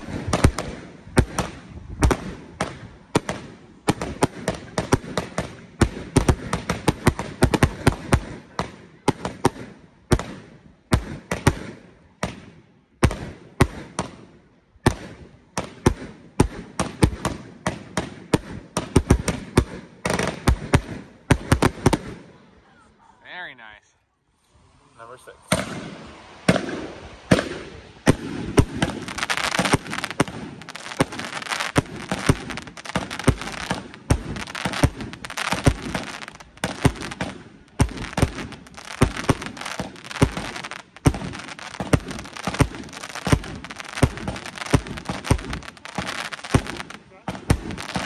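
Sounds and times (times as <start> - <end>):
fireworks sharp reports: 0.0 - 48.0.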